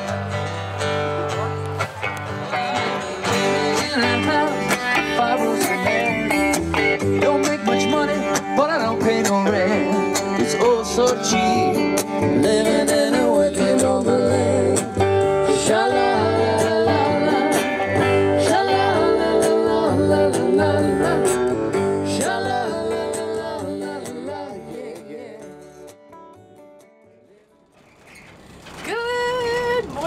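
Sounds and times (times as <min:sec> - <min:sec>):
live country band playing: 0:00.0 - 0:27.0.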